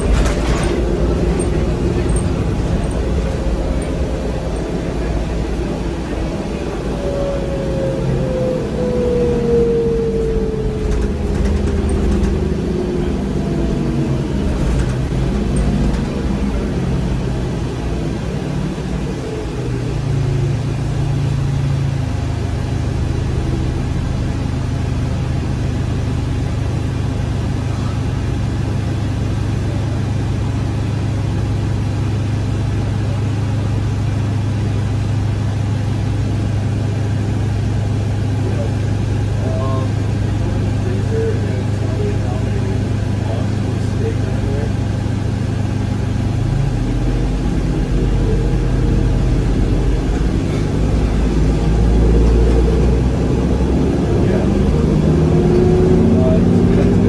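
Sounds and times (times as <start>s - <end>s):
bus drivetrain low hum: 0.0s - 57.0s
bus drivetrain whine: 0.0s - 57.0s.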